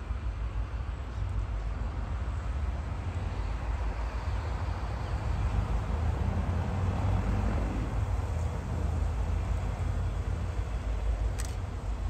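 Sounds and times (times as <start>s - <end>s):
diesel locomotive engines rumbling: 0.0s - 12.0s.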